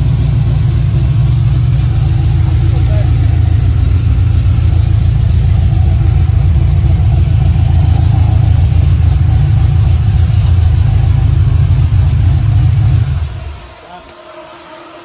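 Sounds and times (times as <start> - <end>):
car engine idling deep rumble: 0.0 - 15.0.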